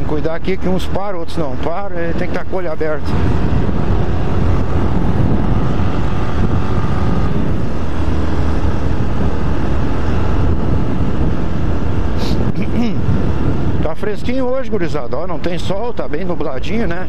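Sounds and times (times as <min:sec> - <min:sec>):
motorcycle engine running: 0:00.0 - 0:13.8
wind rush: 0:00.0 - 0:15.9
road noise: 0:00.0 - 0:17.0.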